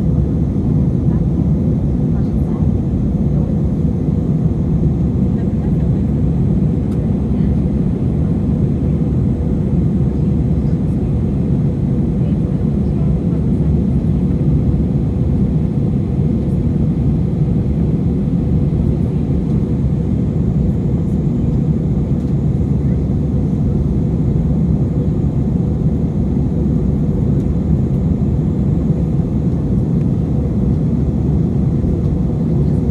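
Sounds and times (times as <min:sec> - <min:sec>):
jet engine cabin rumble: 0:00.0 - 0:32.9.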